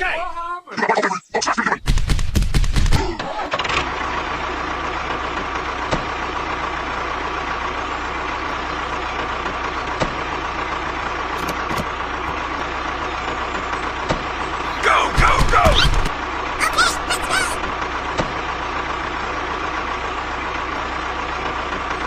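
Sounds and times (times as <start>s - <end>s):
engine idling: 1.9s - 22.0s.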